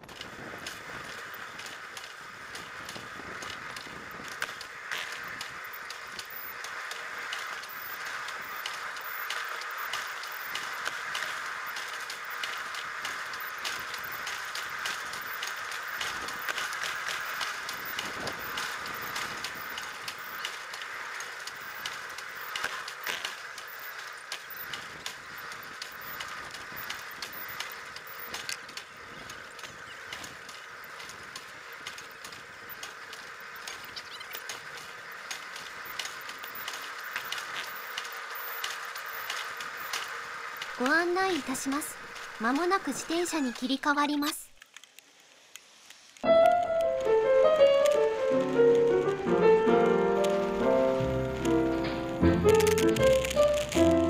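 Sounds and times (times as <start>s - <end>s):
clicks and rattles of running gear: 0.0s - 41.1s, 41.9s - 46.2s
steel wheels rolling on rails: 0.0s - 54.0s.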